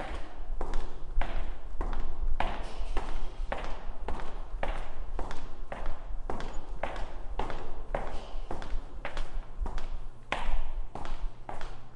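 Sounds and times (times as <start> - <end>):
footsteps knocking in hallway: 0.0 - 11.9.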